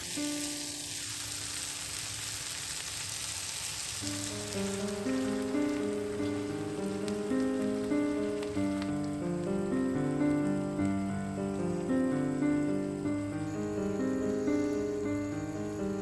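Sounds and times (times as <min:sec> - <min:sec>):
gentle piano music: 0:00.0 - 0:02.9, 0:04.0 - 0:16.0
food sizzling in a frying pan: 0:00.0 - 0:16.0.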